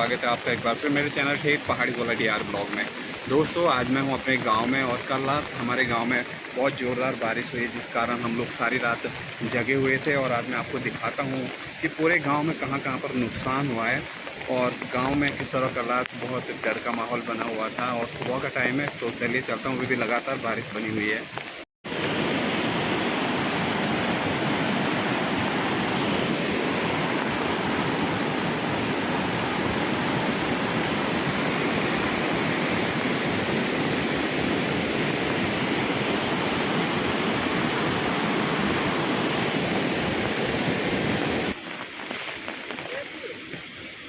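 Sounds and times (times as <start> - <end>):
stream rushing: 0.0 - 44.0.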